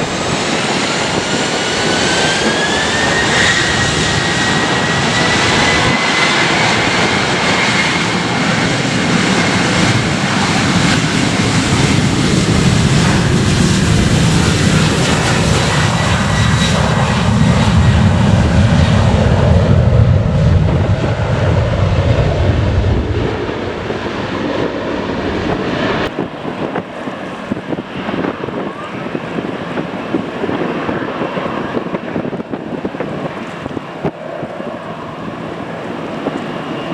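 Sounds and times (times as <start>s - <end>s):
jet engine whine: 0.0s - 36.9s
low jet engine rumble: 0.0s - 36.9s.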